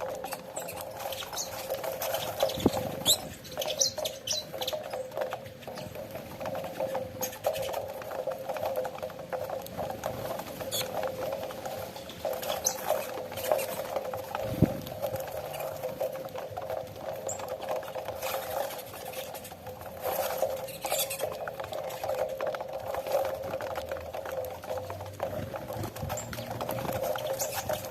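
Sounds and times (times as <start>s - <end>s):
birds pecking and scrabbling: 0.0s - 27.9s.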